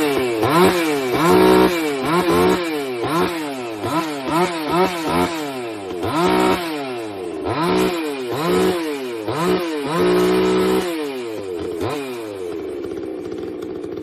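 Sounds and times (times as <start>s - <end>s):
chainsaw revving and idling: 0.0s - 14.0s.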